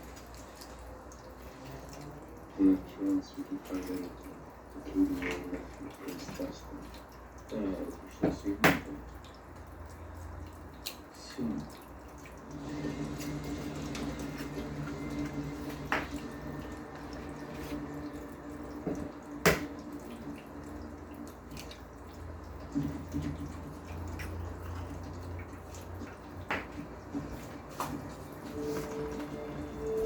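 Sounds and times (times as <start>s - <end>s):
watery background: 0.0s - 30.0s.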